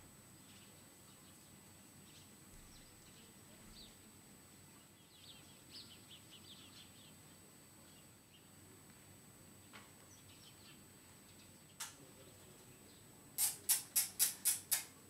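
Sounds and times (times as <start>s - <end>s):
low steady hiss: 0.0s - 15.0s
faint birds chirping: 0.1s - 15.0s.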